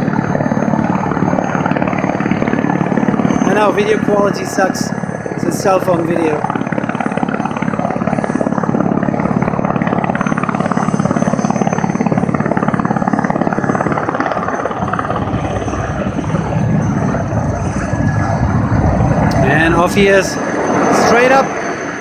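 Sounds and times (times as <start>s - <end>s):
helicopter engine and rotors: 0.0s - 22.0s.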